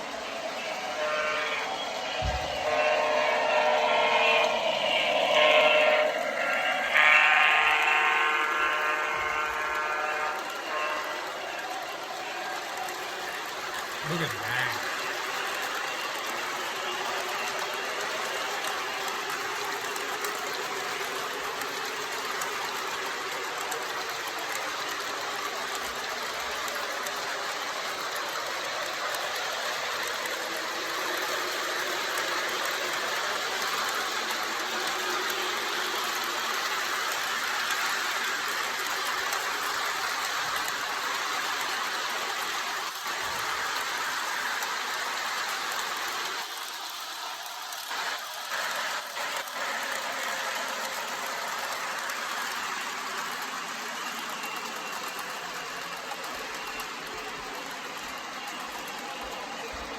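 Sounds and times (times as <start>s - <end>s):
model train motors whirring: 0.0s - 59.9s.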